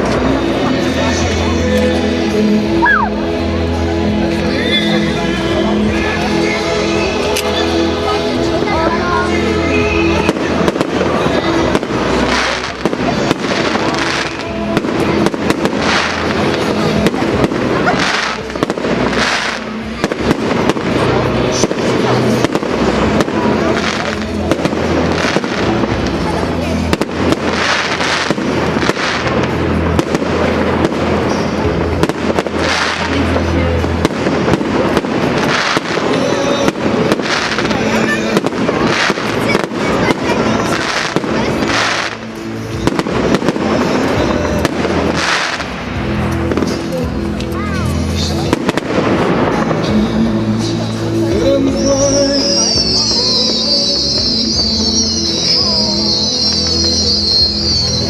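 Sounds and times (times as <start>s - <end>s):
background music: 0.0s - 58.0s
fireworks crackling and hissing: 0.0s - 58.0s
fireworks exploding bangs: 5.1s - 58.0s.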